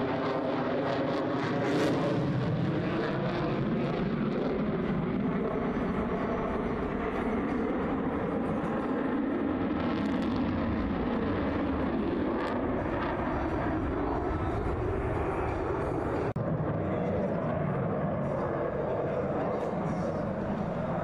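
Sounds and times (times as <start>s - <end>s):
jet engine rumble overhead: 0.0s - 21.0s.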